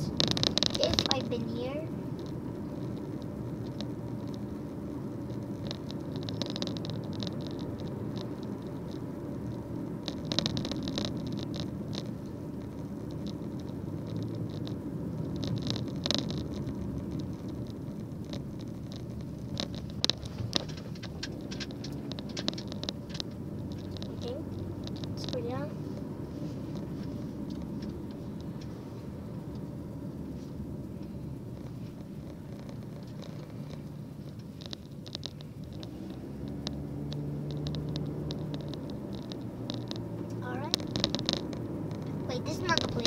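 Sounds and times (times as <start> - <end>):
car cabin road and engine noise: 0.0 - 43.0
light ticks and rustles: 0.0 - 43.0.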